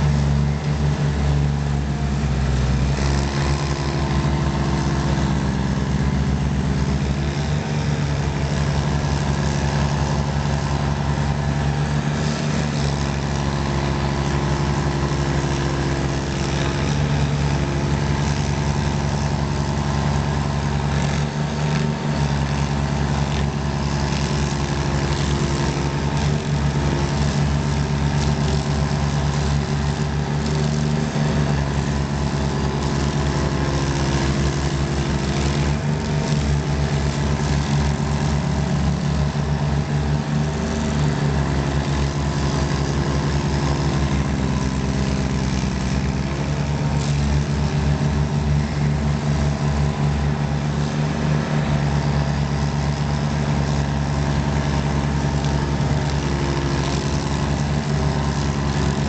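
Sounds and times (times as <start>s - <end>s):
stump grinders grinding: 0.0s - 59.0s.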